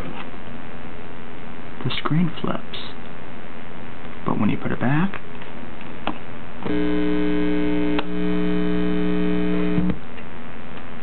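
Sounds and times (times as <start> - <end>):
mains hum through speakers: 0.0 - 11.0.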